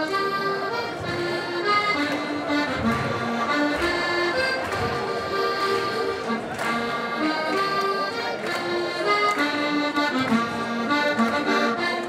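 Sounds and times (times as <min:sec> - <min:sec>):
accordion folk dance tune: 0:00.0 - 0:12.0.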